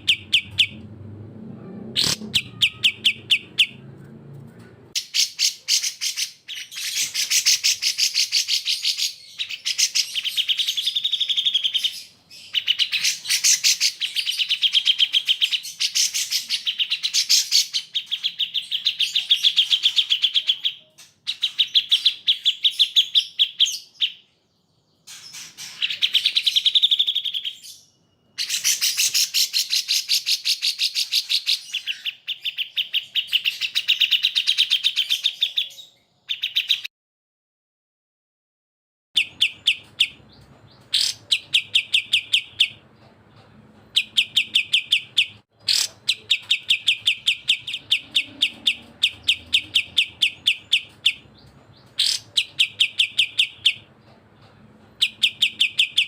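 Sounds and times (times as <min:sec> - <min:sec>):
bird rapid chattering song: 0:00.0 - 0:00.8, 0:02.0 - 0:03.8, 0:04.9 - 0:24.3, 0:25.0 - 0:36.9, 0:39.2 - 0:56.0.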